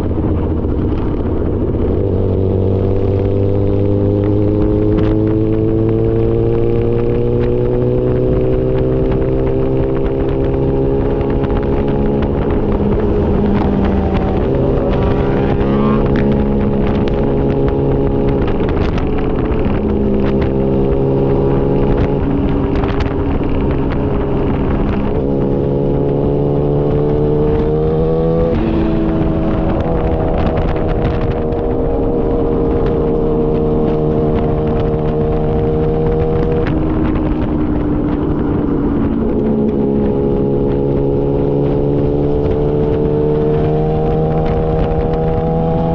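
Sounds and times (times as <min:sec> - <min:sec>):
motorcycle engine at high revs: 0:00.0 - 0:45.9.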